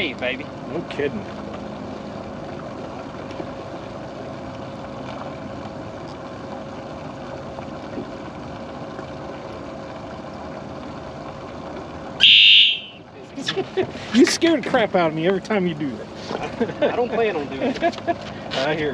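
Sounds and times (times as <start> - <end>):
electric trolling motor humming: 0.0 - 18.9
water noise: 0.0 - 18.9
wind: 0.0 - 18.9.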